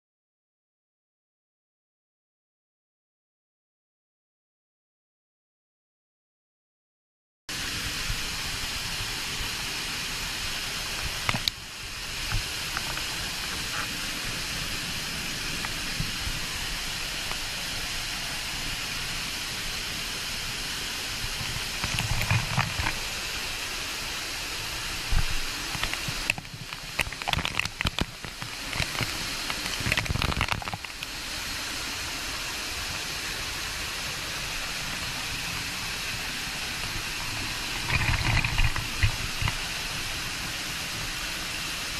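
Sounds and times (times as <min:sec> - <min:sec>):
waterfall roar: 0:07.6 - 0:41.9.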